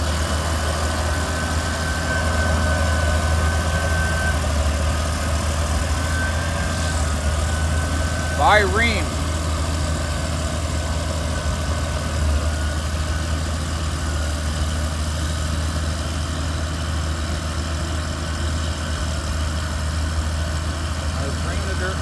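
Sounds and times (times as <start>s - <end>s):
bulldozer diesel engine rumbling: 0.0s - 22.0s.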